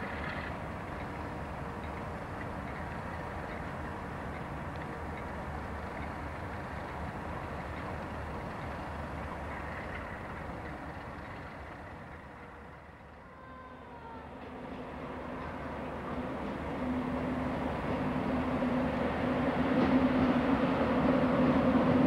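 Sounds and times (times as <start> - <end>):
approaching express train: 0.0 - 22.0
diesel locomotives rumbling: 0.0 - 22.0.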